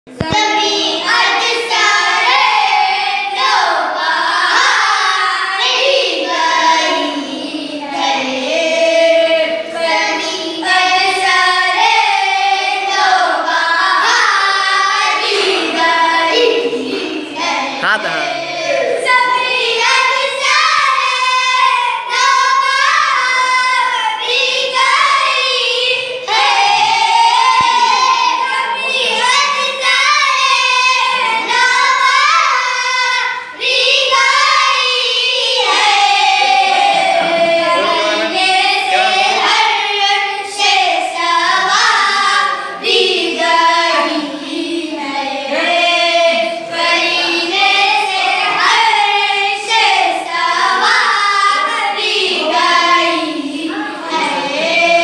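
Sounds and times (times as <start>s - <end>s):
children singing unaccompanied: 0.1s - 55.0s.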